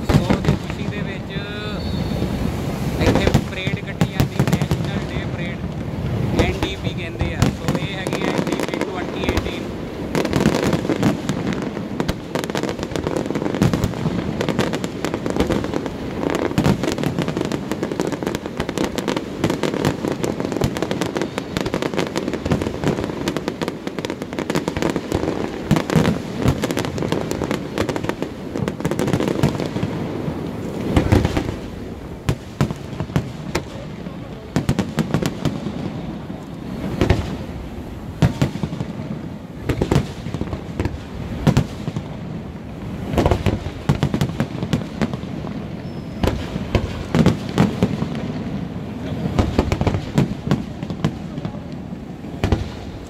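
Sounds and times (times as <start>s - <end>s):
firework crackling: 0.0s - 53.0s.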